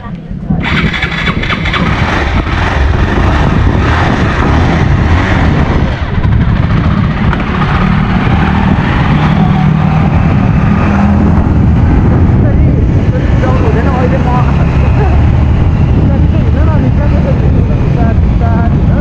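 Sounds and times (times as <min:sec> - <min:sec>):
wind noise on microphone: 0:00.0 - 0:19.0
small motorcycle engine running: 0:00.6 - 0:19.0.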